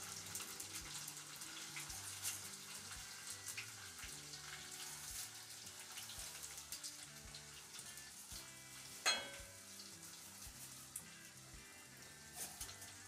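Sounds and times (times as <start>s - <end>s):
rice sizzling in hot oil: 0.0s - 13.0s.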